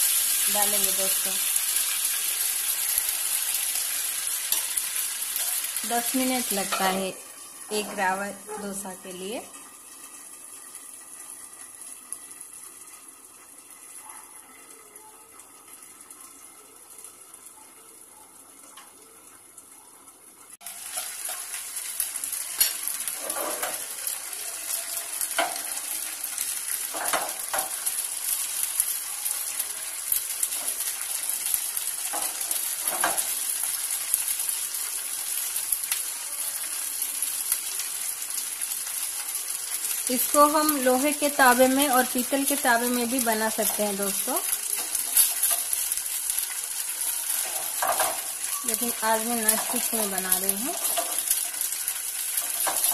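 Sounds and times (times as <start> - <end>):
batter sizzling in a pan: 0.0 - 52.9.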